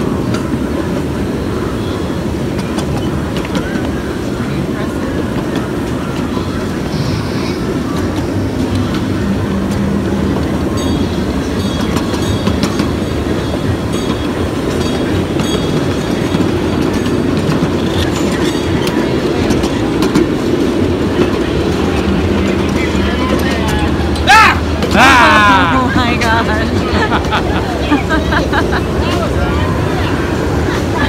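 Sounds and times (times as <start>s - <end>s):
wheels clicking over rail joints: 0.0s - 25.4s
miniature train cars rumbling: 0.0s - 31.0s.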